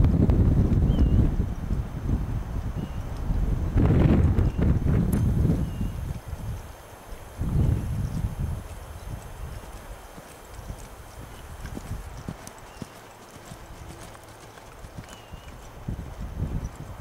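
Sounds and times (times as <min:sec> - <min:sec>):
hoofbeats on soft dirt: 0:00.0 - 0:17.0.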